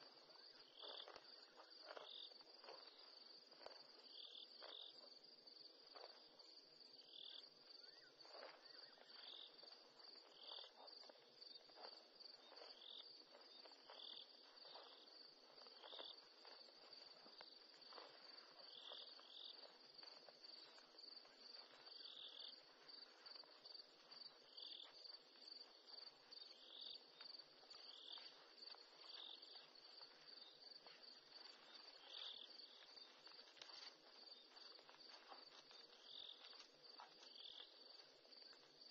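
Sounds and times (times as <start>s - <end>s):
crickets trilling: 0.0s - 38.9s
lower cricket chirp: 0.0s - 38.9s.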